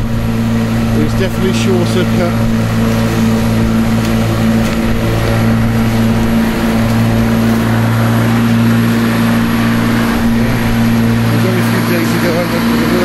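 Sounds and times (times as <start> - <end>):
electric lawnmower cutting grass: 0.0 - 13.0.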